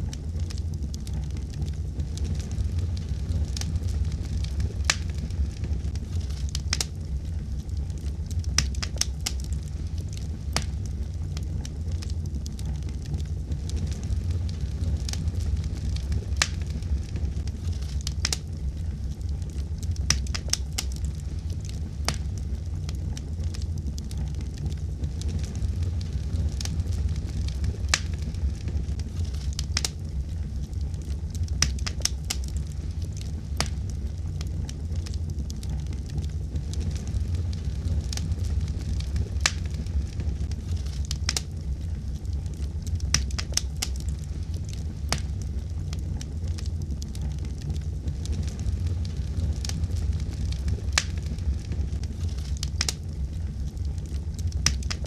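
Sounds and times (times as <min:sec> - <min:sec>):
fire popping and snapping: 0:00.0 - 0:55.0
low rumble of flames: 0:00.0 - 0:55.0.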